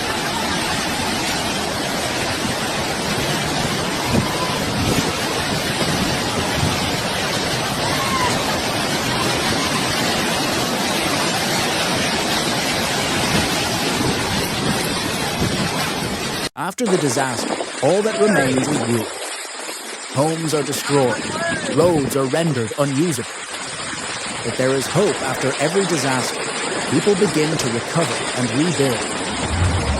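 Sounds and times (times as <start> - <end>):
roar of rushing floodwater: 0.0 - 29.9.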